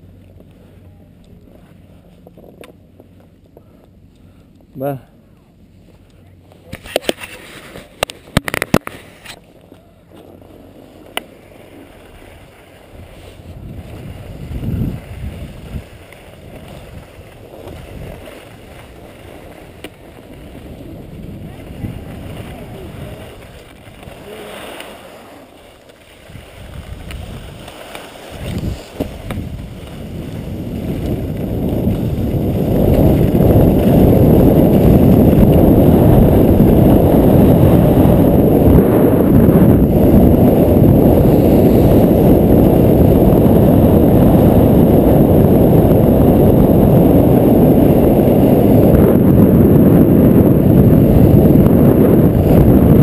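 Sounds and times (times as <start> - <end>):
skis scraping over snow: 0.0 - 53.0
wind rushing over microphone: 6.7 - 53.0.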